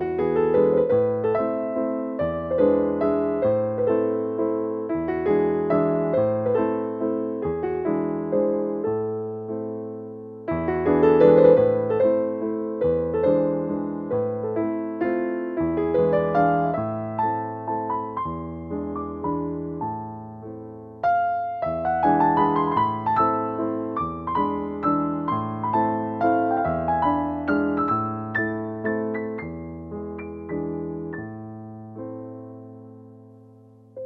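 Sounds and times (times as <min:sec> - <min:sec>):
gentle piano melody: 0:00.0 - 0:34.0.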